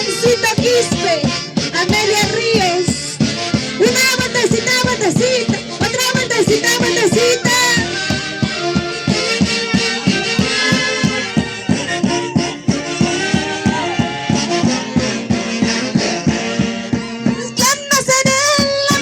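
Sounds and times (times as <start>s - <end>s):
folk orchestra playing: 0.0s - 19.0s.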